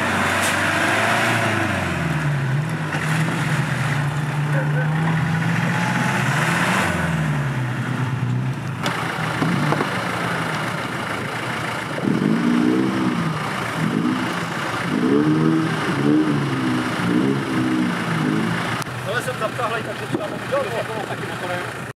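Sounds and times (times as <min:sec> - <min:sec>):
engine revving: 0:00.0 - 0:21.9.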